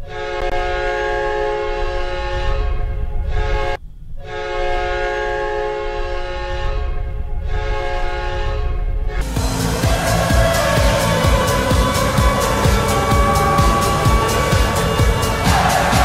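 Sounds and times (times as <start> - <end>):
goal horn blasts: 0.0 - 6.9, 7.6 - 16.0
low rumble: 1.6 - 16.0.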